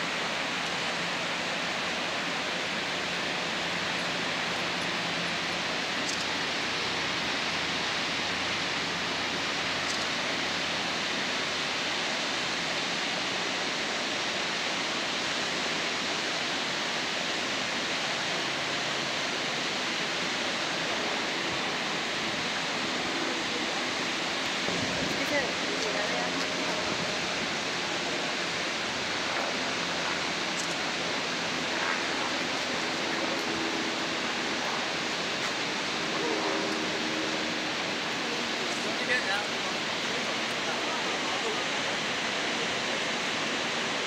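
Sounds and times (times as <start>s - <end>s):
whitewater rapids rushing: 0.0s - 44.0s.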